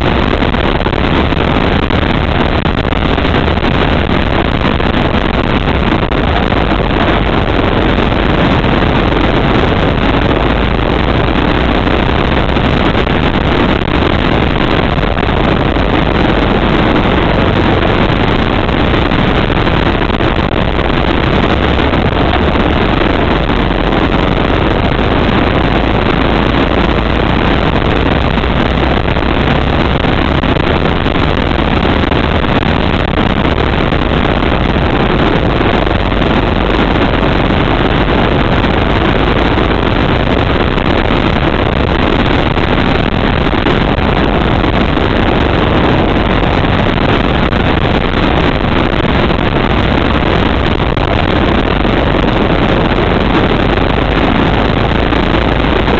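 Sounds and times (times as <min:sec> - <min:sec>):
go-kart engine running hard: 0:00.0 - 0:55.9.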